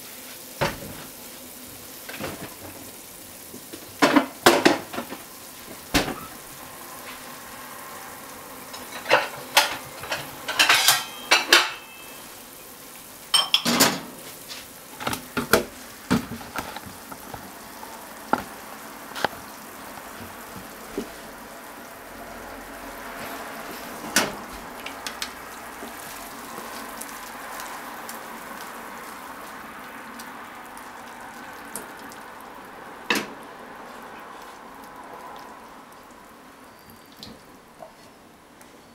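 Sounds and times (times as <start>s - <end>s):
food sizzling in pan: 0.0s - 38.2s.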